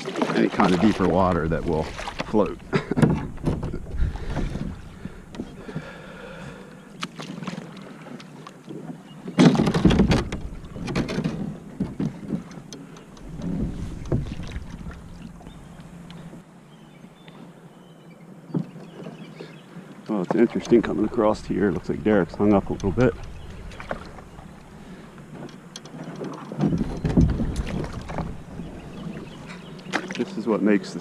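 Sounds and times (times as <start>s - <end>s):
paddle strokes splashing: 0.0s - 16.4s, 18.6s - 31.0s
rush of water: 0.0s - 16.4s, 19.8s - 31.0s.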